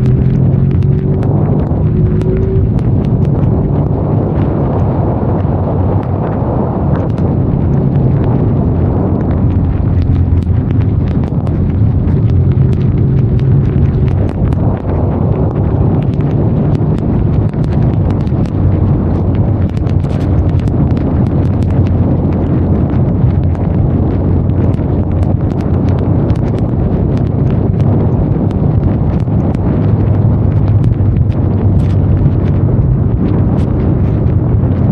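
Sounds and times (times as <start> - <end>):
motorcycle engine running: 0.0 - 34.9
wind rush: 0.0 - 34.9.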